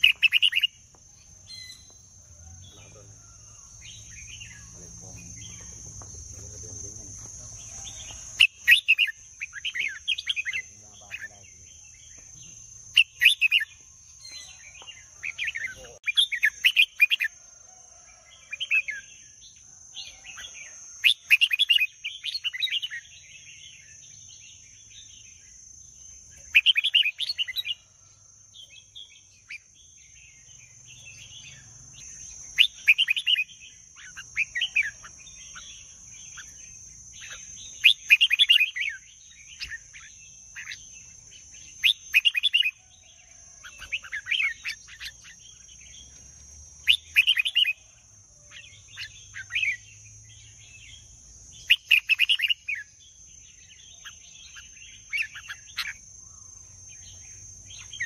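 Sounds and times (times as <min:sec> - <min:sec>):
bird singing warbled phrases: 0:00.0 - 0:17.4, 0:18.1 - 0:28.0, 0:28.6 - 0:58.0.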